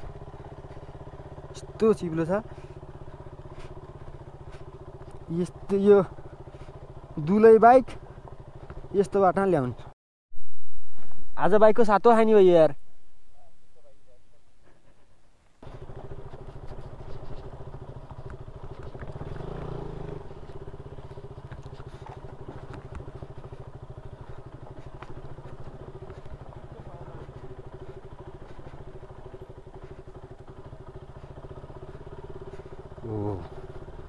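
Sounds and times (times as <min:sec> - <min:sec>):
motorcycle engine running: 0:00.0 - 0:10.0, 0:14.6 - 0:34.0.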